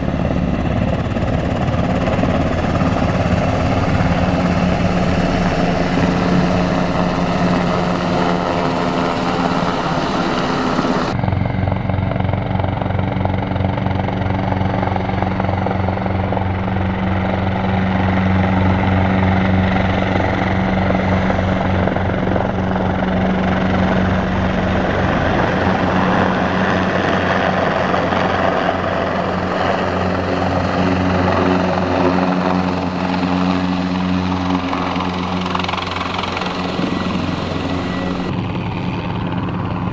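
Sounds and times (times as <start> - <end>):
helicopter rotors beating: 0.0 - 39.9
turbine engine noise: 0.0 - 39.9.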